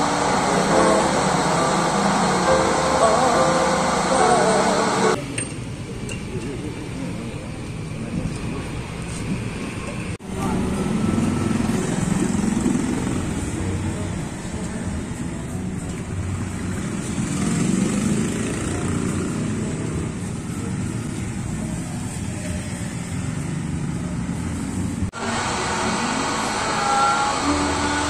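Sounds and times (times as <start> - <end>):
motor vehicle engines rumbling: 0.0 - 28.0
street noise: 0.0 - 28.0.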